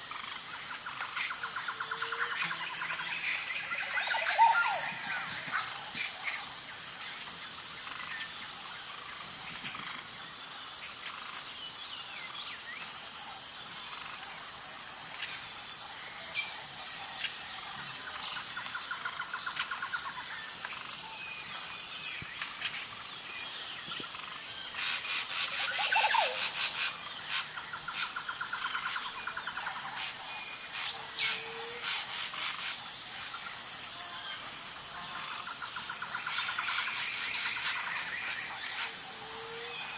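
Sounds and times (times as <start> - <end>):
pulsing insect drone: 0.0 - 39.9
birds chirping and trilling: 0.1 - 9.8, 15.1 - 39.9.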